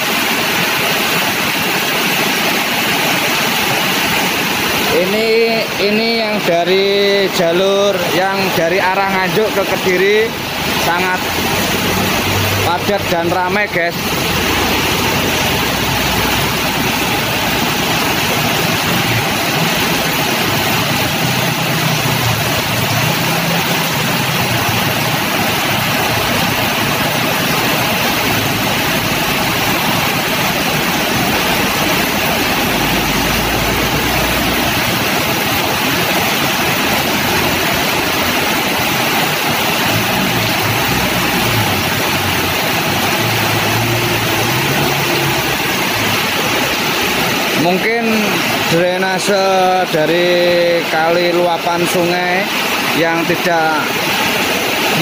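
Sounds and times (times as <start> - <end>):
heavy rain pouring: 0.0 - 55.0
vehicles driving through floodwater: 0.0 - 55.0.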